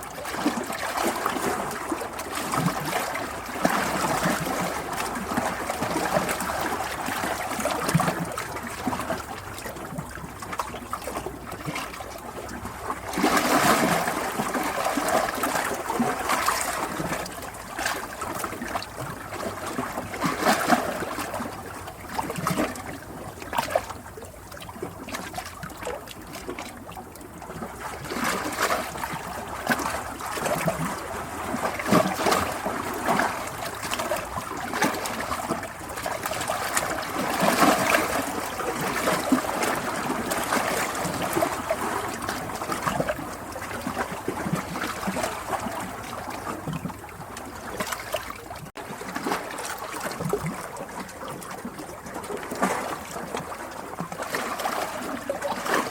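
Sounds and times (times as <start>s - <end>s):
water trickling and splashing: 0.0s - 55.9s.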